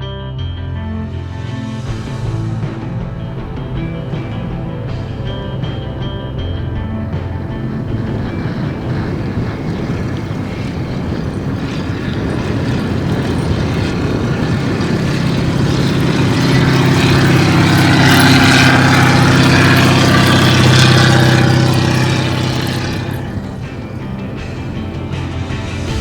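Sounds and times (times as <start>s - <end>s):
heavy vehicle engine running: 1.5s - 26.0s.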